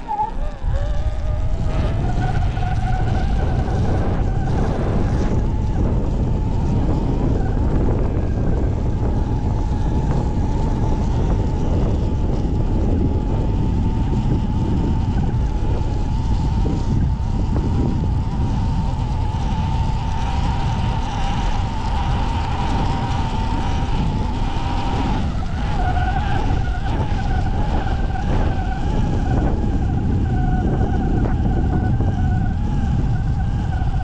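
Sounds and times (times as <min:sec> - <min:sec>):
electric dirt bike motor whining: 0:00.0 - 0:34.0
wind rumble on microphone: 0:00.0 - 0:34.0.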